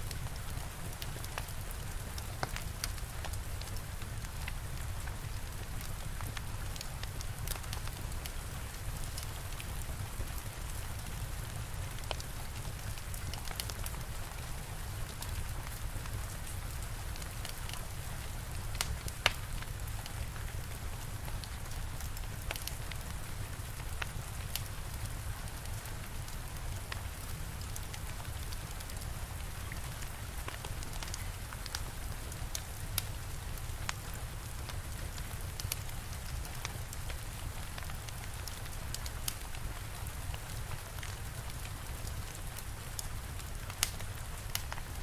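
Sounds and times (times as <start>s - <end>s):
steady rain: 0.0s - 45.0s
fire crackling with pops: 0.1s - 45.0s.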